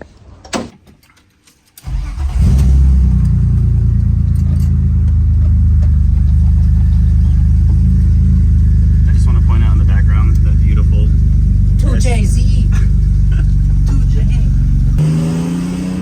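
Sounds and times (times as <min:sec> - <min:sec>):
car engine cranking and idling: 0:01.6 - 0:16.0.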